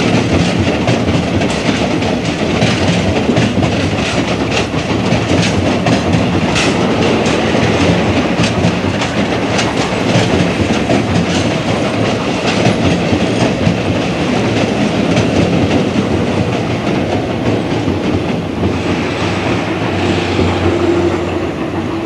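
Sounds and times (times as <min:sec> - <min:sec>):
train cars rumbling past: 0:00.0 - 0:22.0
wheels clicking over rail joints: 0:00.0 - 0:22.0.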